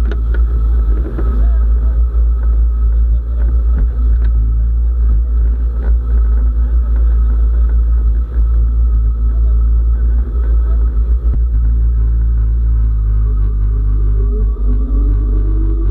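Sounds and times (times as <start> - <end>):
engine drone with propeller: 0.0 - 15.9.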